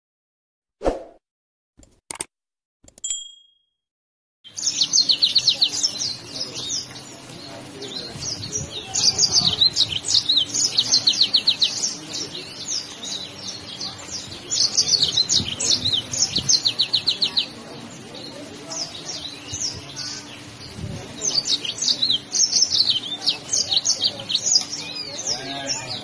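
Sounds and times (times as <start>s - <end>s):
canary singing: 4.5s - 26.0s.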